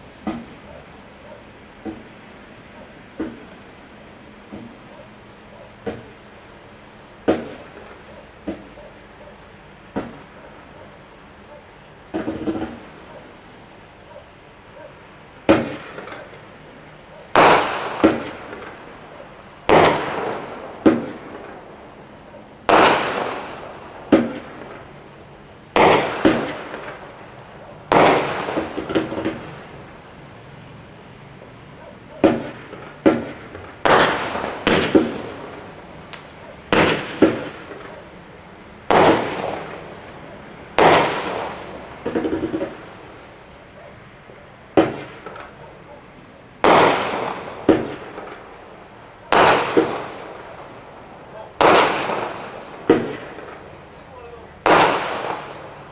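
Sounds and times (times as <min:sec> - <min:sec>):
firework bangs: 0:00.0 - 0:08.8, 0:09.9 - 0:11.4, 0:12.0 - 0:14.8, 0:15.4 - 0:55.9.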